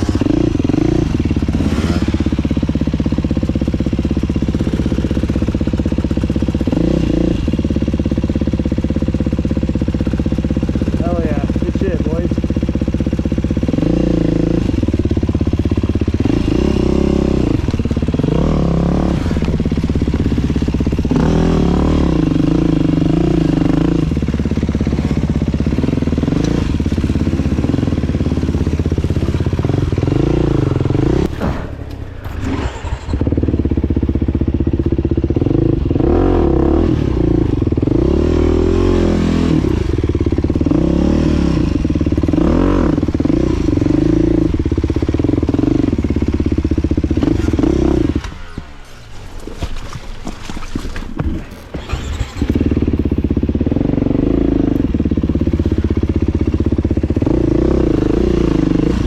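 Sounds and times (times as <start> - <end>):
dirt bike engine revving: 0.0 - 49.2, 51.2 - 59.0.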